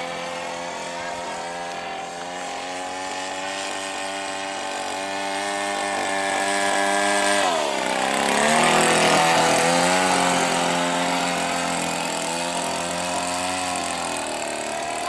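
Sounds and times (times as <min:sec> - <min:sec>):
model plane engine buzzing: 0:00.0 - 0:15.0.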